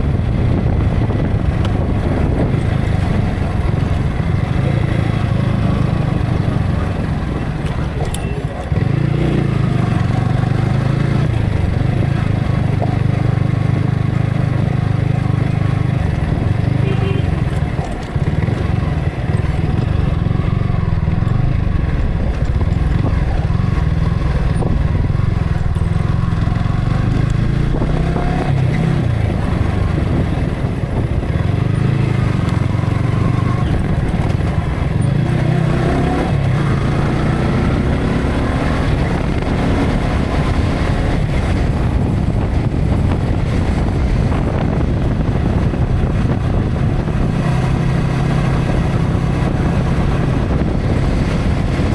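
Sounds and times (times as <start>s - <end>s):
motorcycle engine running: 0.0s - 51.9s
wind noise: 0.0s - 51.9s.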